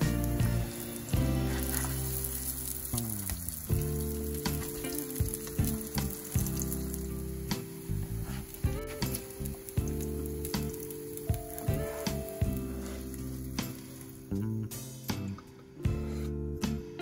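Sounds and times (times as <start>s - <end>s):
potatoes sizzling in a pan: 0.0s - 15.0s
background music: 0.0s - 17.0s.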